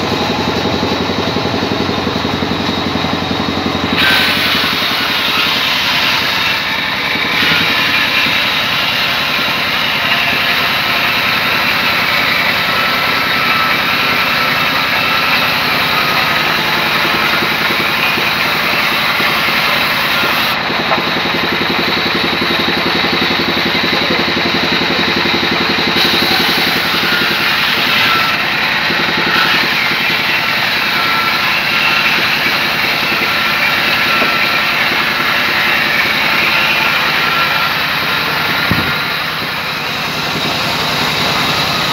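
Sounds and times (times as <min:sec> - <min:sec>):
band saw cutting wood: 0:00.0 - 0:41.9
thin steady whine: 0:00.0 - 0:41.9.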